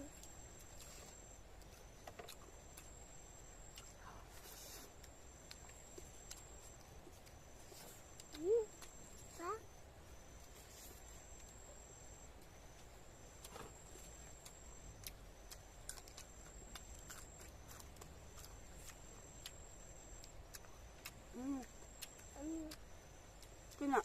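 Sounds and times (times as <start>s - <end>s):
soft chewing clicks and smacks: 0.1s - 9.5s, 12.2s - 24.0s.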